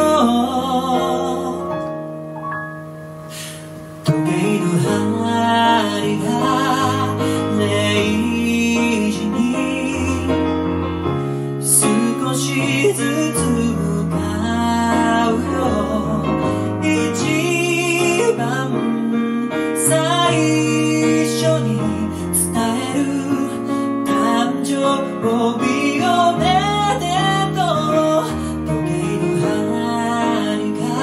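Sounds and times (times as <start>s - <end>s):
woman singing: 0.0s - 1.9s, 4.1s - 10.4s, 11.7s - 31.0s
piano: 0.0s - 31.0s.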